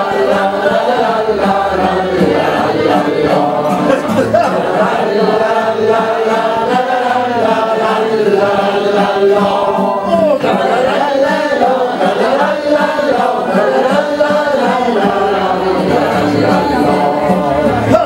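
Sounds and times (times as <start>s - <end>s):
group of people singing unaccompanied: 0.0s - 18.0s.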